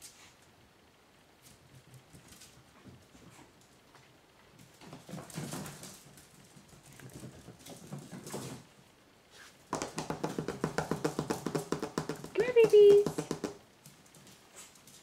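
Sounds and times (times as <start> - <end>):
puppy claws pattering on tile: 1.4 - 8.8, 9.4 - 15.0.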